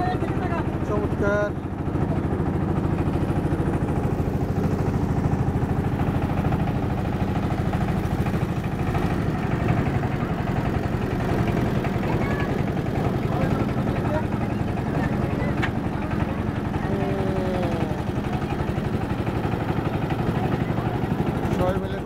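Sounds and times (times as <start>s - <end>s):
boat engine chugging: 0.0s - 22.0s.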